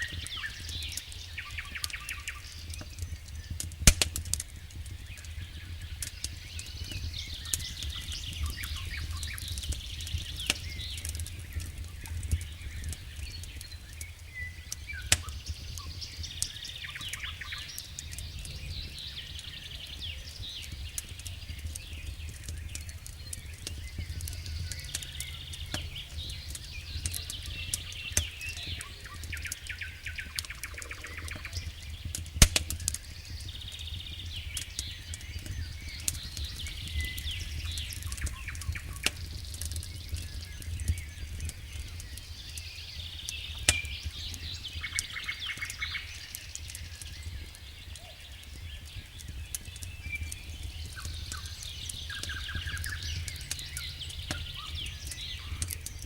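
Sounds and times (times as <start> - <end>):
birds chirping: 0.0 - 3.6, 4.4 - 56.0
wood fire crackling and popping: 0.0 - 56.0.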